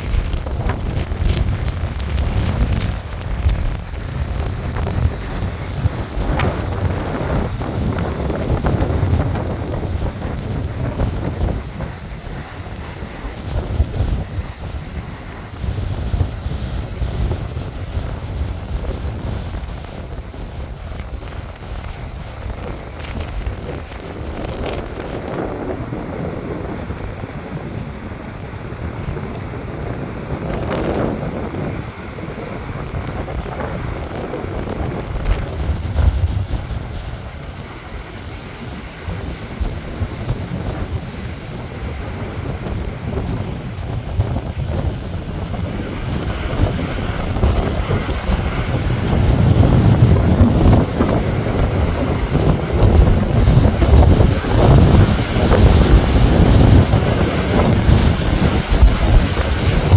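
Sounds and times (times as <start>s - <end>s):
waves breaking on rocky shore: 0.0s - 59.9s
wind buffeting microphone: 0.0s - 59.9s.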